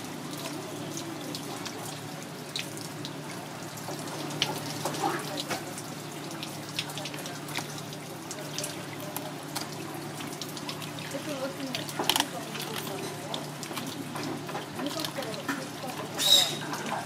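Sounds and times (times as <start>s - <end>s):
drips and splashes: 0.0s - 17.0s
hose water running: 0.0s - 17.0s.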